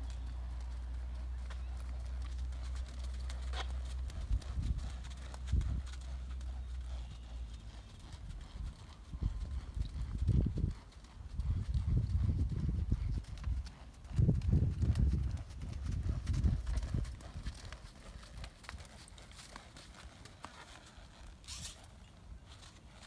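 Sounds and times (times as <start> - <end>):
horse hoofbeats on dirt: 0.0 - 23.0.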